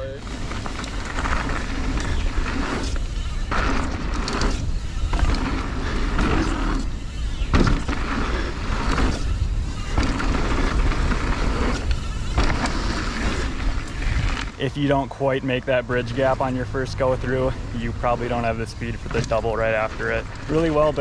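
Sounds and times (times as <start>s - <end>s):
bike tyres rumbling on dirt: 0.0s - 21.0s.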